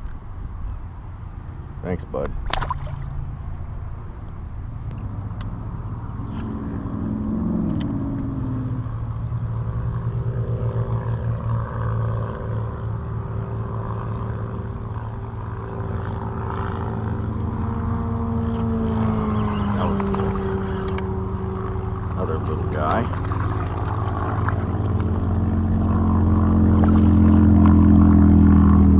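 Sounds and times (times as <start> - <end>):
motor engine running: 4.8 - 28.9.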